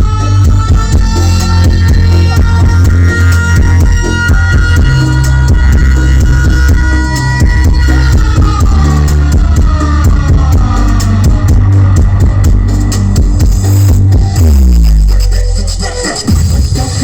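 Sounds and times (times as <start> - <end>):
loud electronic dance music: 0.0 - 17.0.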